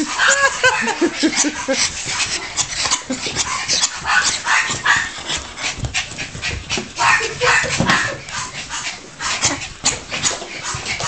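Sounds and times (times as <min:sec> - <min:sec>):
dogs panting: 0:00.0 - 0:11.0
dogs yipping: 0:00.1 - 0:11.0.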